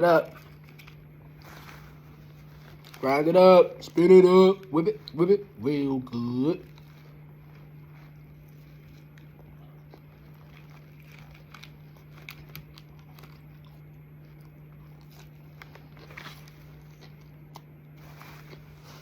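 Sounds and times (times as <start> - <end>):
steady low hum: 0.0 - 19.0
person chewing food: 0.2 - 3.9, 6.1 - 19.0.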